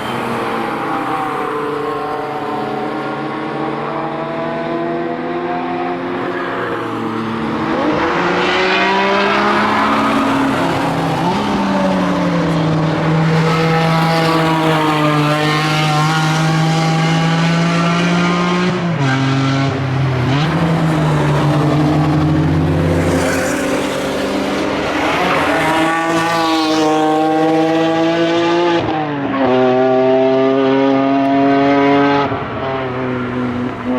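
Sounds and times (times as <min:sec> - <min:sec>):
race car engines passing: 0:00.0 - 0:33.9.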